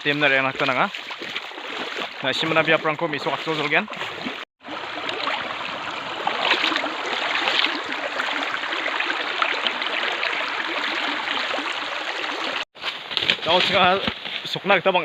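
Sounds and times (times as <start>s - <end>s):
water rushing: 0.0s - 12.7s.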